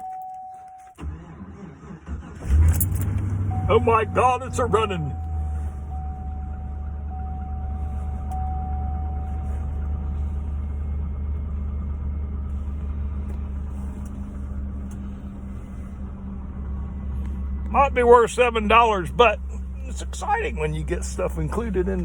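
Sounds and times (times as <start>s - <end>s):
truck engine idling: 0.1s - 22.0s.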